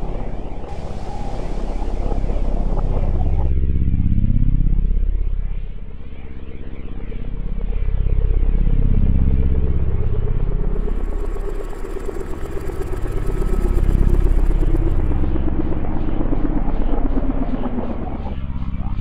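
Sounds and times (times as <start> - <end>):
dark ambient drone music: 0.0 - 19.0.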